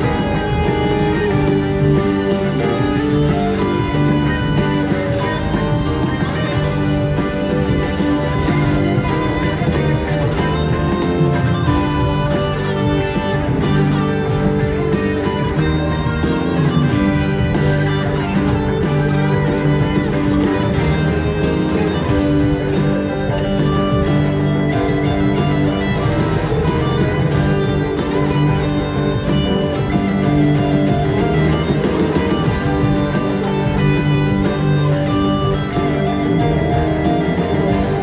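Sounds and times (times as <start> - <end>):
electric guitars: 0.0 - 38.0
live rock band playing: 0.0 - 38.0.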